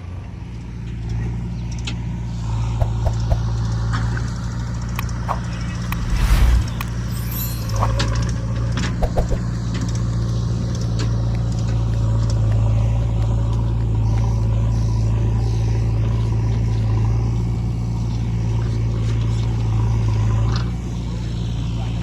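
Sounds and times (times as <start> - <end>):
heavy diesel engine running: 2.0 - 22.0.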